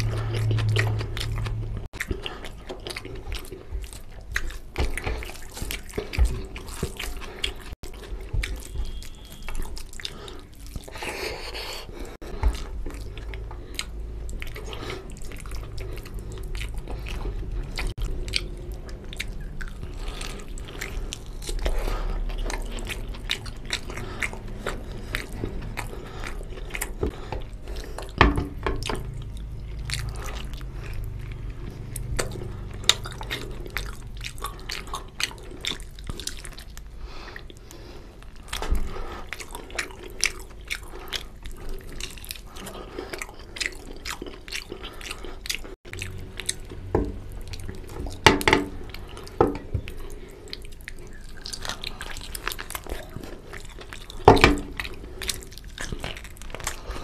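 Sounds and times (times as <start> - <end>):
man chewing with wet mouth sounds: 0.0 - 57.0.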